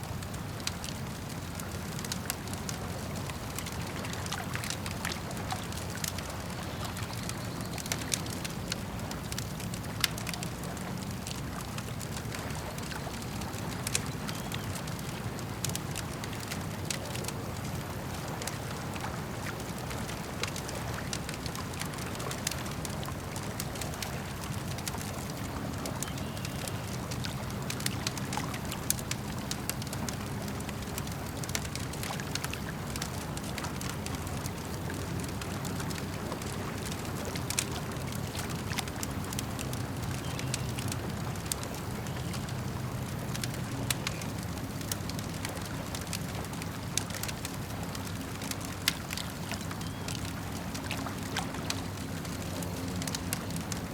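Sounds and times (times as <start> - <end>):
campfire crackling and popping: 0.0 - 53.9
lake water lapping: 0.1 - 53.9.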